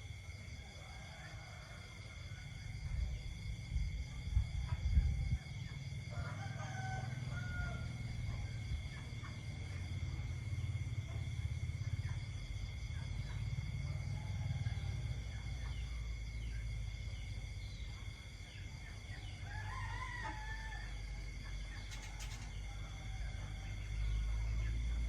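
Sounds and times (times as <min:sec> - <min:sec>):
frogs croaking: 0:00.0 - 0:25.0
insects trilling: 0:00.0 - 0:25.0.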